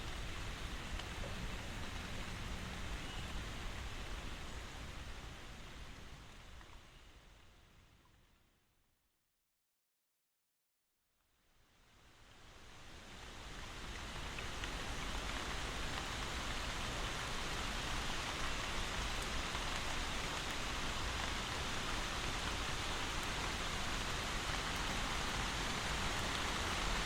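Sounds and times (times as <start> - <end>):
steady rain falling: 0.0 - 8.3, 11.5 - 27.0.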